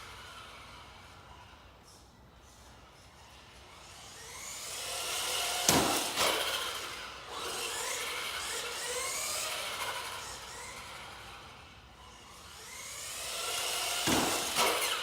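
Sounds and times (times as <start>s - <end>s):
rc truck electric motor whining: 0.0s - 15.0s.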